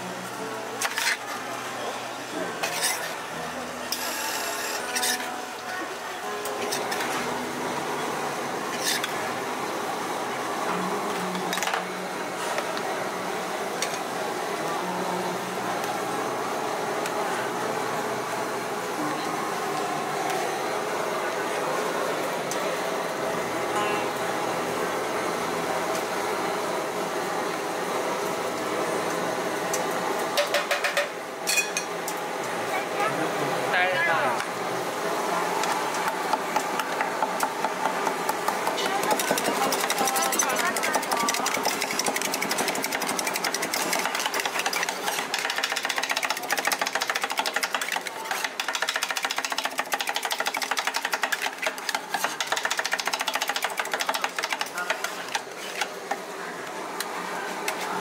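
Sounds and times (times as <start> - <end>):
steady background hum: 0.0 - 58.0.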